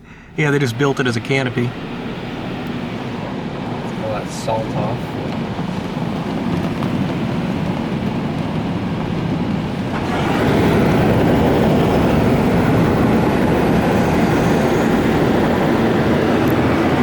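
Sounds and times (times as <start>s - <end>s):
car wash water spray hissing: 0.0s - 17.0s.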